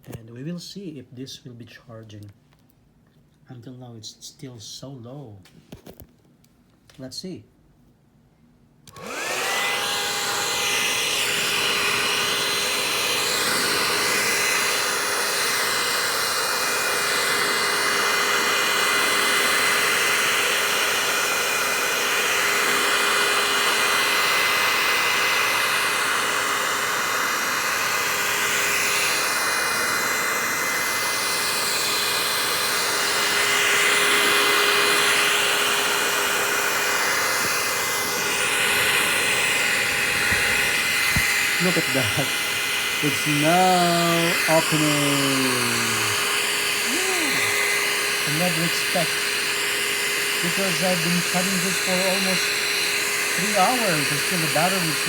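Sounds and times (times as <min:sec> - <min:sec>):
warm-air blower fan whining: 0:08.9 - 0:55.0.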